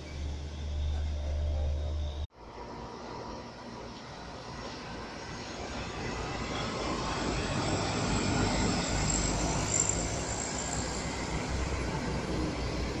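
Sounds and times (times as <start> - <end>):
heavy trucks passing on highway: 0.0 - 13.0.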